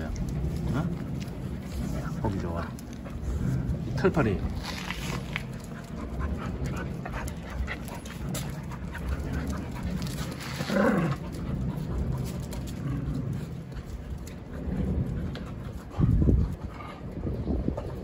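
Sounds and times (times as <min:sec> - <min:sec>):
dogs panting: 0:00.0 - 0:18.0.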